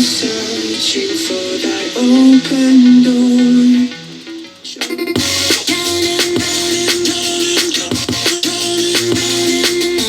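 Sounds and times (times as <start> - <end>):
song through speakers: 0.0 - 10.0.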